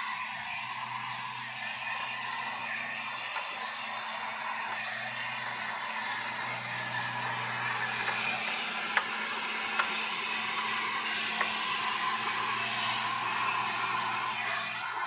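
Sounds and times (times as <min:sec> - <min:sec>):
heat gun blowing: 0:00.0 - 0:15.0.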